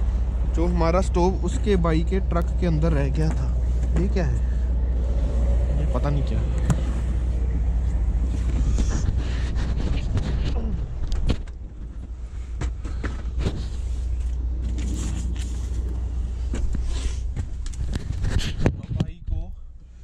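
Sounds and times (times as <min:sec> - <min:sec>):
truck engine idling: 0:00.0 - 0:18.2.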